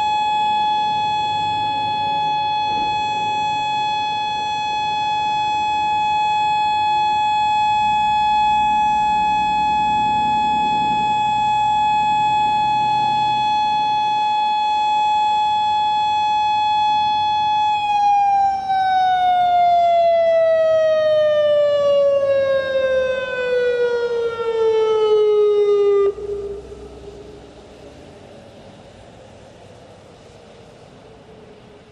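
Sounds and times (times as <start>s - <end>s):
outdoor warning siren: 0.0s - 30.4s.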